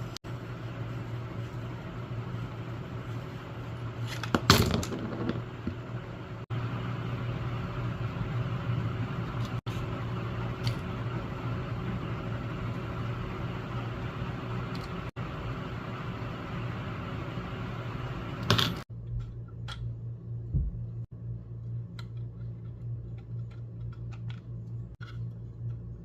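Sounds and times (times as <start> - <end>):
soldering gun electrical hum: 0.0 - 26.0.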